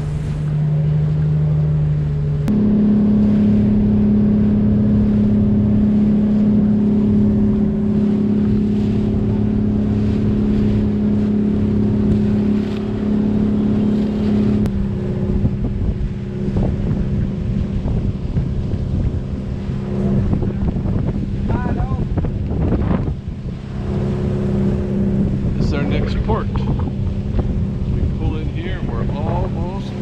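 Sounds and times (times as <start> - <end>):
boat engine droning: 0.0 - 30.0
wind buffeting microphone: 0.0 - 30.0.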